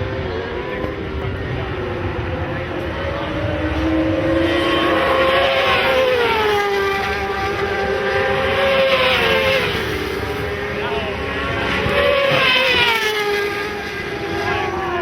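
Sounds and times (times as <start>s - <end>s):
racing motorcycles passing at high revs: 0.0s - 15.0s.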